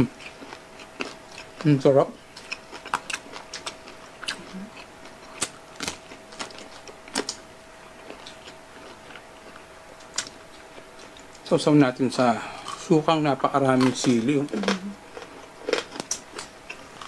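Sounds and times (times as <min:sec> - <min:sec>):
chewing crispy fried pork: 0:00.0 - 0:17.0
faint steady hum: 0:00.0 - 0:17.0.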